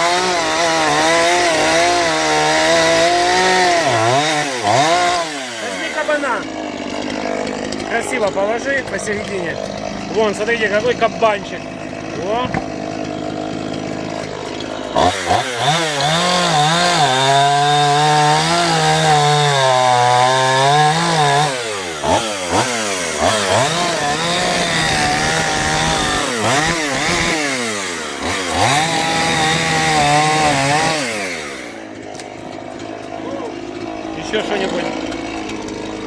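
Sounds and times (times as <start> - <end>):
chainsaw cutting wood: 0.0 - 36.0.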